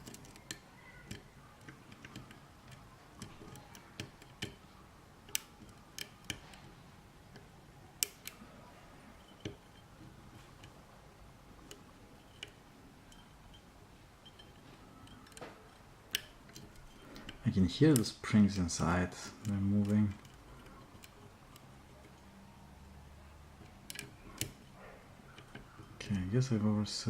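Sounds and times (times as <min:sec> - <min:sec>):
lock pick metallic clicks: 0:00.0 - 0:08.5, 0:11.6 - 0:18.2, 0:19.3 - 0:26.5.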